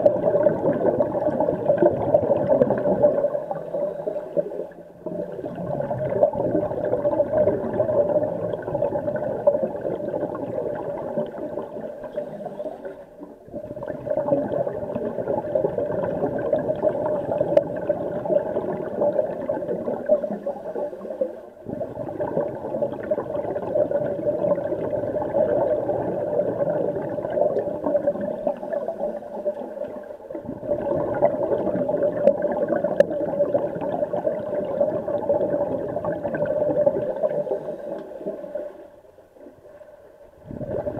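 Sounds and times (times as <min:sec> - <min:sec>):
underwater bubbling and gurgling: 0:00.0 - 0:40.9
underwater hum: 0:00.0 - 0:40.9.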